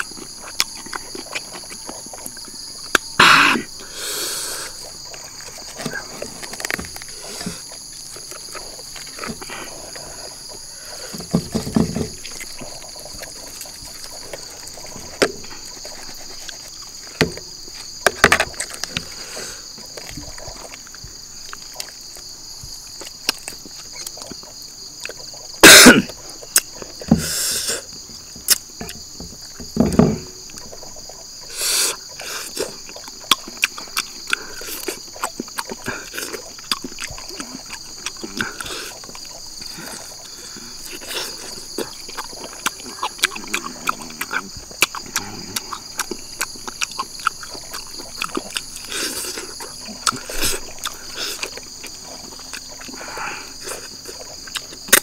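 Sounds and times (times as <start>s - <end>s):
chewing and lip smacks: 0.0s - 3.2s, 4.6s - 11.2s, 12.2s - 19.2s, 19.8s - 27.0s, 30.4s - 55.0s
high insect chorus: 0.0s - 55.0s.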